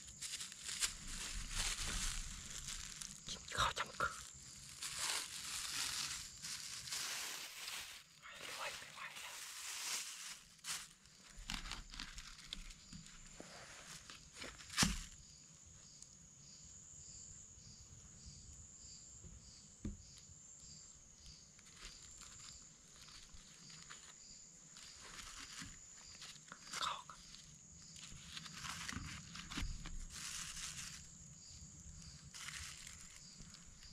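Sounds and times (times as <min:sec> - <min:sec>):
night insects buzzing and chirping: 0:00.0 - 0:33.9.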